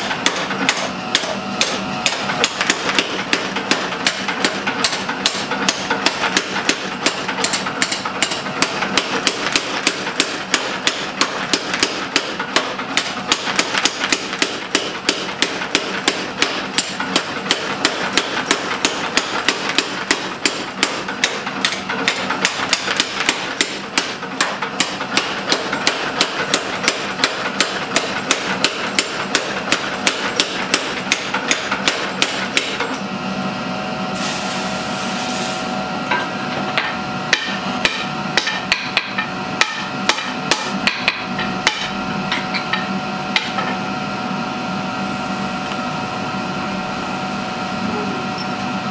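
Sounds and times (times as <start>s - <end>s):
power hammer striking hot metal: 0.0s - 33.0s, 35.5s - 43.8s
steady machine hum: 0.0s - 48.9s.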